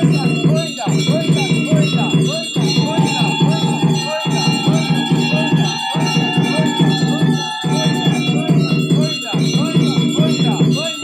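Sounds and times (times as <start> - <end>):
devotional music: 0.0 - 11.0
temple bells ringing: 0.0 - 11.0.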